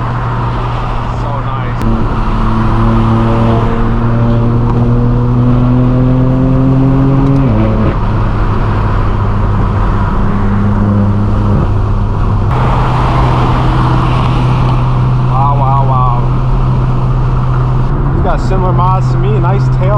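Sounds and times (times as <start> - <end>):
car exhaust accelerating: 0.0 - 19.9.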